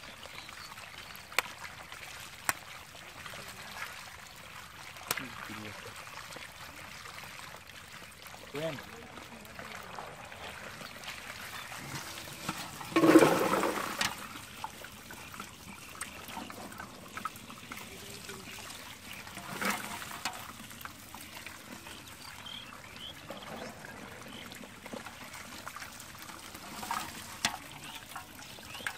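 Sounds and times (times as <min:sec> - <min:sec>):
water trickling and splashing: 0:00.0 - 0:28.9.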